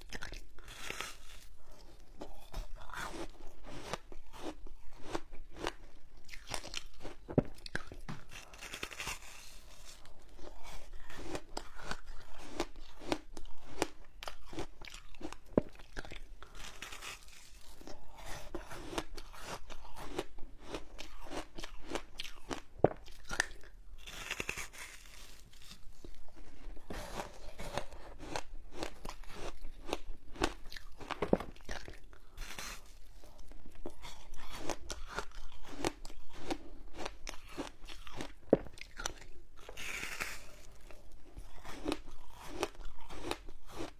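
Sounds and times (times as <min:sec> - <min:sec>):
chewing crunchy frozen ice: 0:00.0 - 0:43.9.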